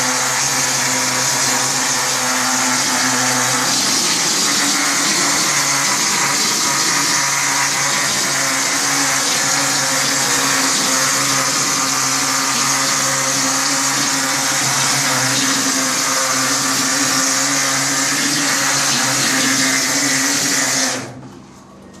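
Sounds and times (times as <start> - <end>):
plastering machine humming and hissing: 0.0 - 21.2.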